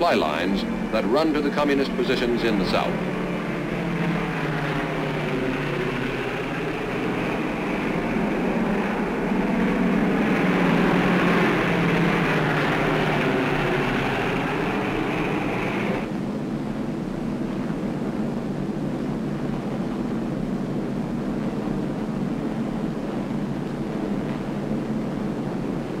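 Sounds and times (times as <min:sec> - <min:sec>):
bomber piston engines droning: 0:00.0 - 0:26.0.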